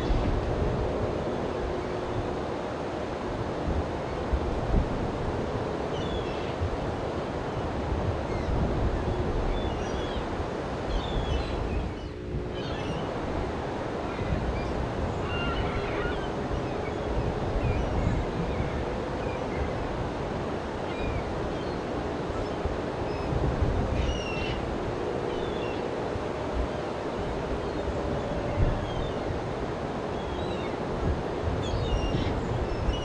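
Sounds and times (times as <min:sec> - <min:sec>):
waves washing onto beach: 0:00.0 - 0:33.0.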